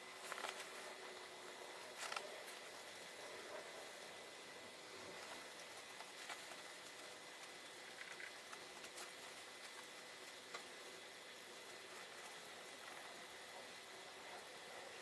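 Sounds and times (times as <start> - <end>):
faint thin whine: 0.0 - 15.0
room hiss: 0.0 - 15.0.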